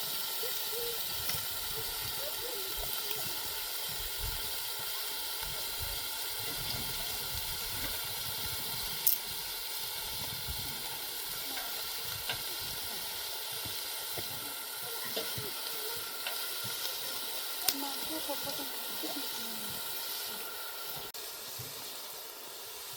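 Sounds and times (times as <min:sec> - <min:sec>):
food sizzling in a pan: 0:00.0 - 0:22.9
small pops of frying: 0:00.9 - 0:22.0.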